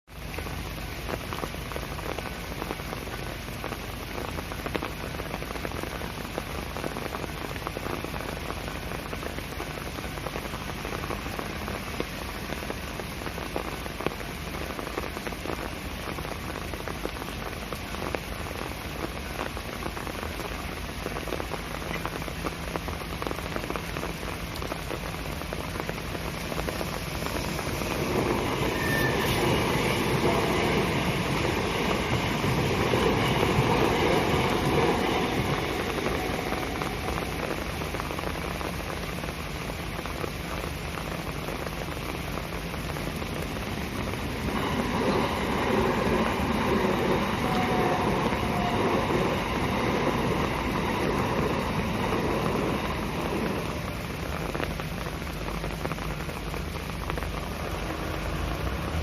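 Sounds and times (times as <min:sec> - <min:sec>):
heavy rain on ground: 0:00.0 - 0:59.0.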